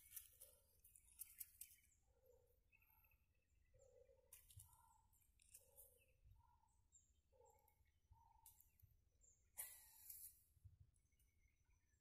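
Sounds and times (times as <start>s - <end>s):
faint low bird calls: 0.0s - 12.0s.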